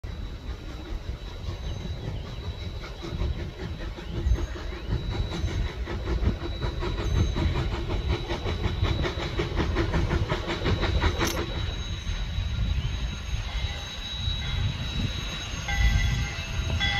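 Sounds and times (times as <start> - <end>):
steam locomotive chugging: 0.0 - 16.9.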